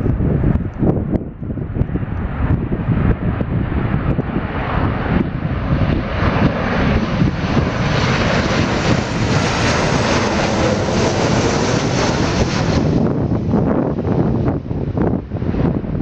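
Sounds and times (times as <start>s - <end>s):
jet engine passing overhead: 0.0s - 16.0s
wind buffeting microphone: 0.0s - 16.0s.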